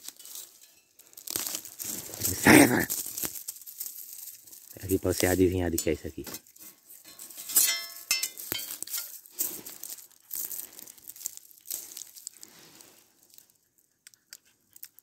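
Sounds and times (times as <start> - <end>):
dry leaves and snake skin crinkling: 0.0 - 14.0.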